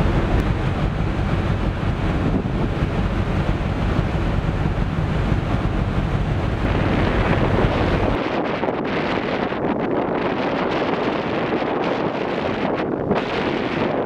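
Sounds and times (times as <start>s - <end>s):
rough sea wash: 0.0s - 14.0s
water churning along hull: 0.0s - 14.0s
wind buffeting microphone: 0.0s - 14.0s.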